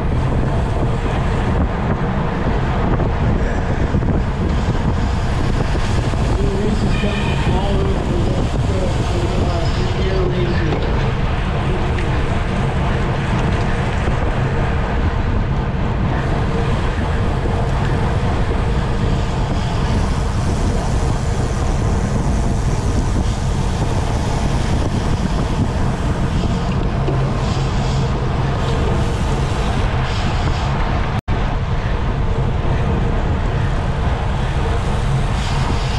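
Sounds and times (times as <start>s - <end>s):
low road rumble: 0.0s - 35.9s
wind on microphone: 0.0s - 35.9s.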